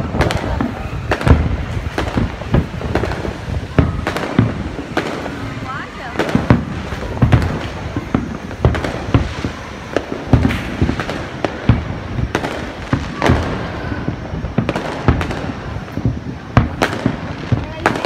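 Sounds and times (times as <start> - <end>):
firework crackling: 0.0 - 18.0
firework shells bursting: 0.0 - 18.0.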